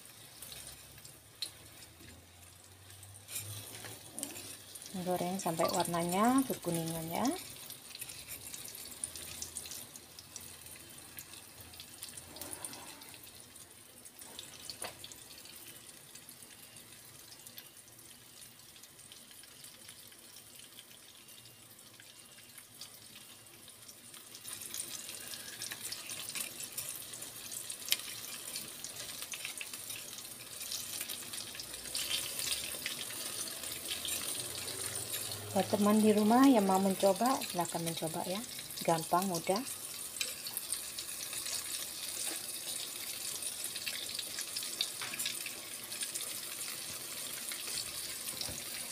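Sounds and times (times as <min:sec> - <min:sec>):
food sizzling in oil: 0:00.0 - 0:48.9.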